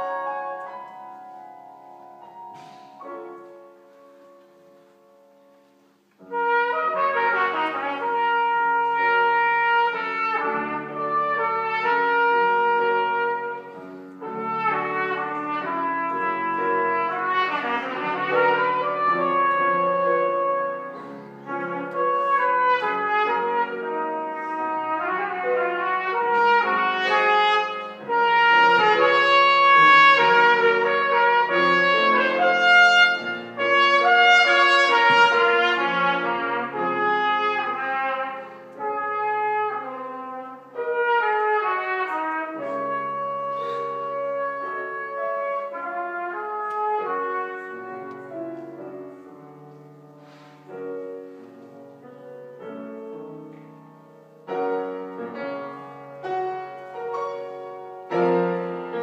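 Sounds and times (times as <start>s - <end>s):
trumpet melody: 0.0s - 5.6s, 6.2s - 59.0s
piano chords: 0.0s - 59.0s.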